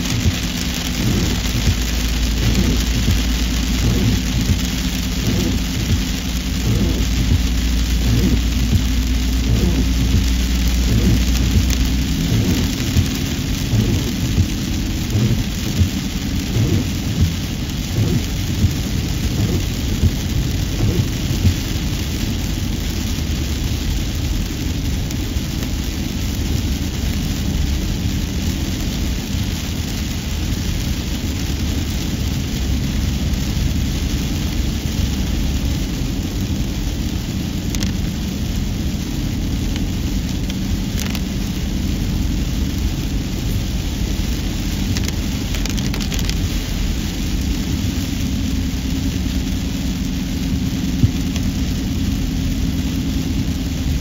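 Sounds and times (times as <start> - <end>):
road noise inside moving car: 0.0 - 54.0.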